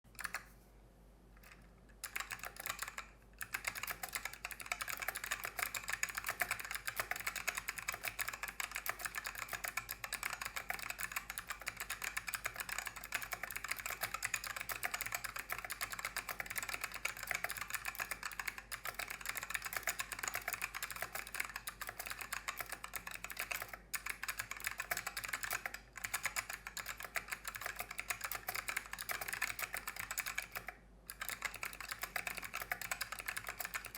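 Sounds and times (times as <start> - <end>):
mechanical keyboard typing: 0.1 - 0.5, 1.4 - 33.9.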